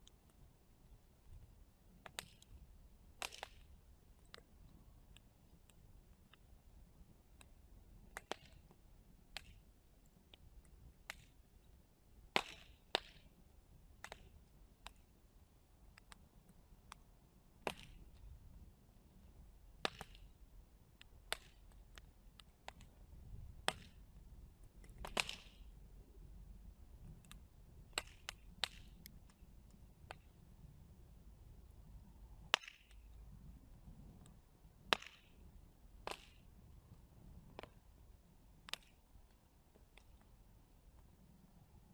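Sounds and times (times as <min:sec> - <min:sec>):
burning wood crackling and popping: 0:00.0 - 0:31.0, 0:31.9 - 0:41.8
low rumble of flames: 0:00.0 - 0:41.9.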